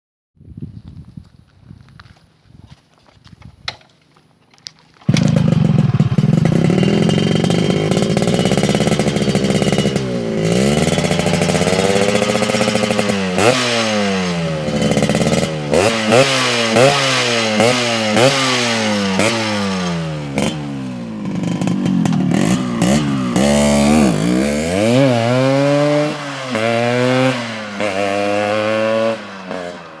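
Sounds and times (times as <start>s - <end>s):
motorcycle engine revving: 4.9s - 30.0s.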